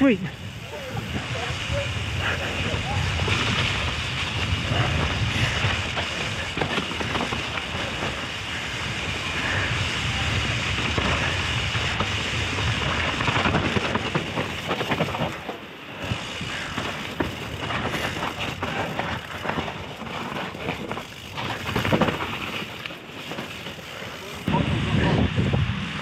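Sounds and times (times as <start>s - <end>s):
bike rattling over rough ground: 0.0s - 26.0s
bike tyres hissing: 0.0s - 26.0s.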